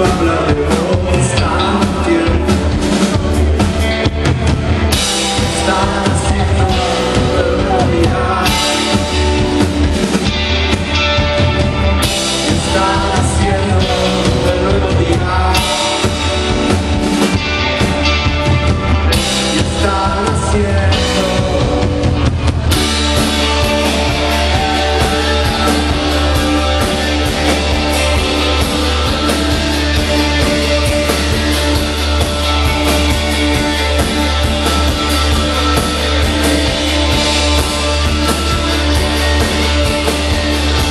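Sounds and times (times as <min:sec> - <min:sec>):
person singing: 0:00.0 - 0:10.2, 0:12.0 - 0:17.8, 0:19.1 - 0:40.9
rock band playing live: 0:00.0 - 0:40.9.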